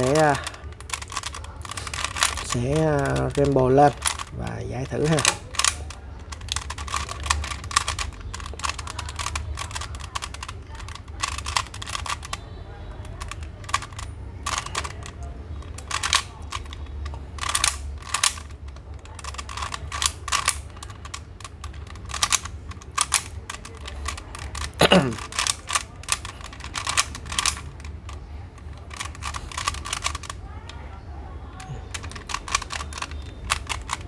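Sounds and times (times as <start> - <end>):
puzzle cube clicking: 0.0 - 34.0.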